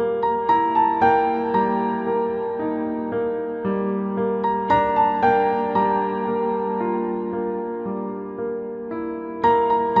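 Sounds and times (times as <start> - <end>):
slow soft keyboard melody: 0.0 - 10.0.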